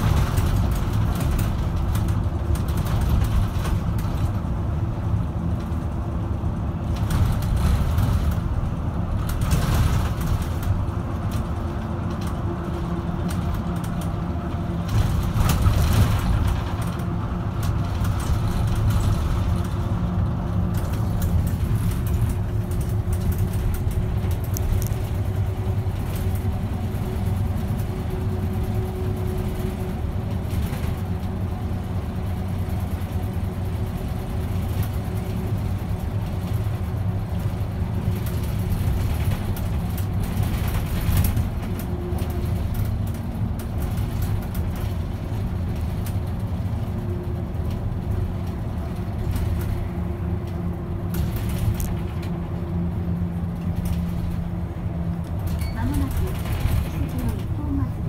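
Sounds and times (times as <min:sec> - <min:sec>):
bus engine hum: 0:00.0 - 0:58.0
tyre road noise: 0:00.0 - 0:58.0.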